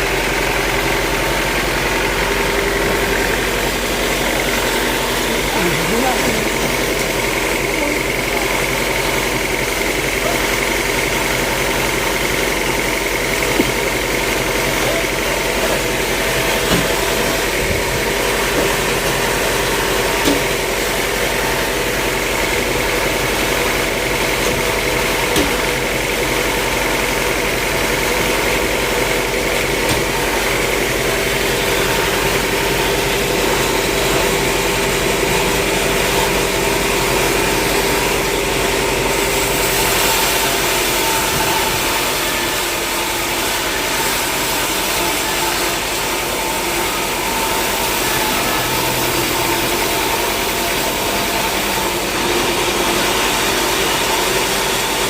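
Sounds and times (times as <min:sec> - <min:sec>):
sawmill machinery hum: 0:00.0 - 0:55.0.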